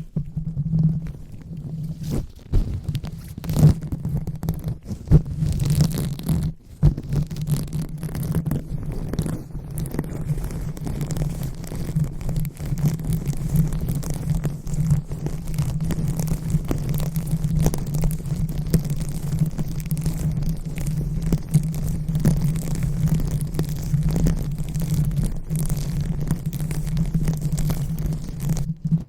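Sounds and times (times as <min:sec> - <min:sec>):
hands rubbing on microphone: 0:00.0 - 0:29.0.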